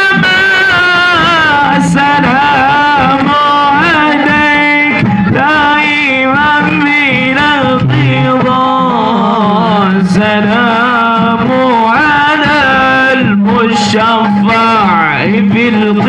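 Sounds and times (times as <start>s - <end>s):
man singing through loudspeakers: 0.0s - 16.0s.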